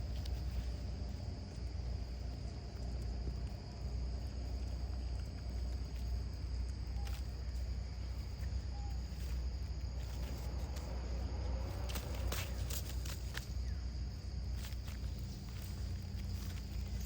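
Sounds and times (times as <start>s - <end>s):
crickets trilling: 0.0s - 17.0s
low rumble: 0.0s - 17.0s.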